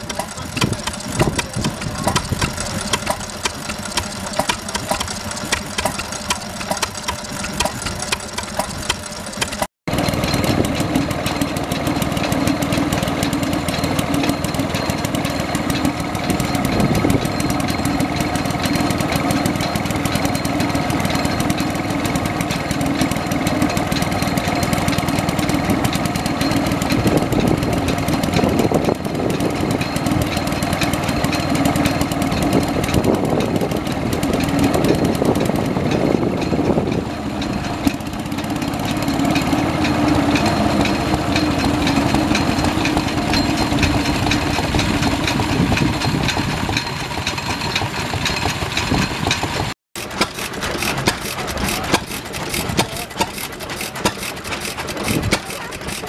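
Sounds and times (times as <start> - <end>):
engine running fast steady note: 0.0 - 56.0
engine slow knocking beat: 0.0 - 56.0.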